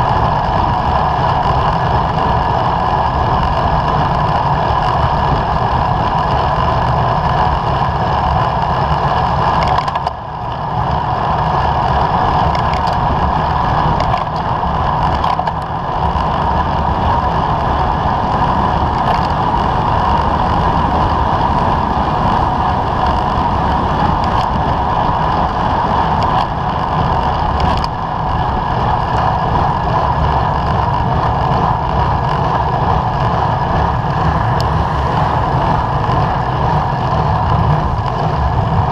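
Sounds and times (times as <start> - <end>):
bicycle road rumble on asphalt: 0.0 - 38.9
wind rush on microphone: 0.0 - 38.9.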